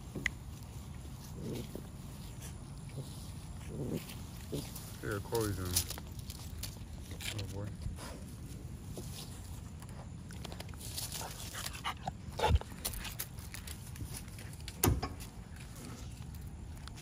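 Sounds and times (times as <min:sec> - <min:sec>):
puppies scuffling: 0:00.0 - 0:17.0.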